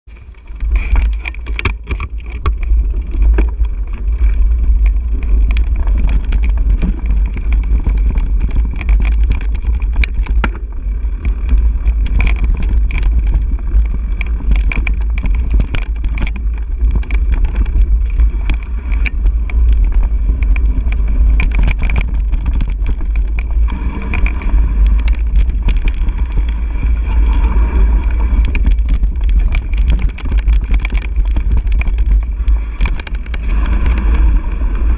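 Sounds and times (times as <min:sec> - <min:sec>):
wind rumble on microphone: 0:00.0 - 0:34.9
bike clicks and rattles: 0:00.1 - 0:34.9.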